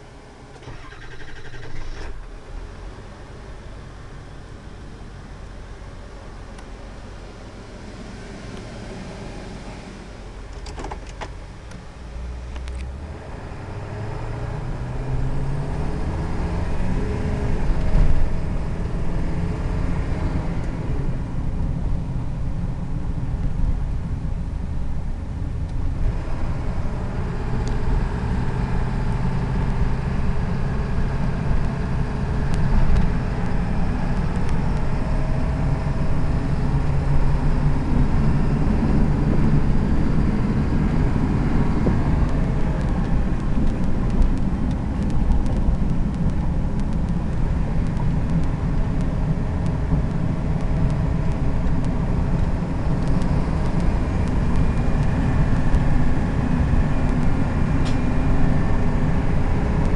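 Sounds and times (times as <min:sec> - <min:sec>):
van engine and road noise: 0:00.0 - 0:59.9.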